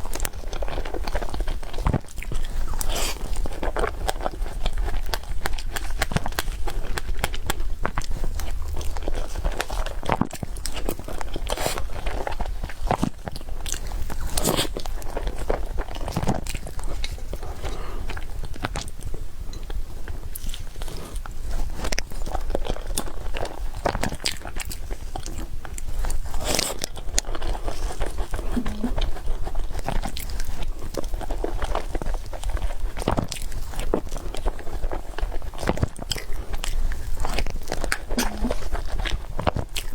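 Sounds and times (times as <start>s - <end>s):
person chewing cake: 0.0s - 39.9s.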